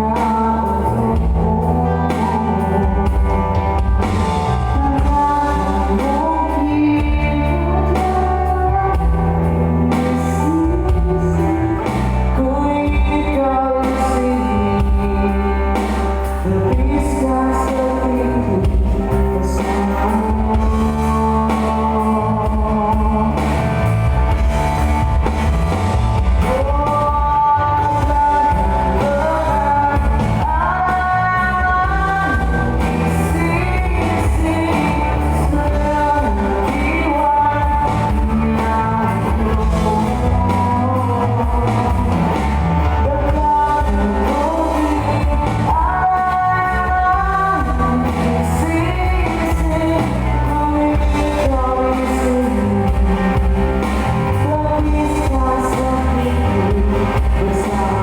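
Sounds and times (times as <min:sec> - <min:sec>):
live band playing: 0:00.0 - 0:58.0
person singing: 0:00.0 - 0:58.0
steady bass line: 0:00.0 - 0:58.0.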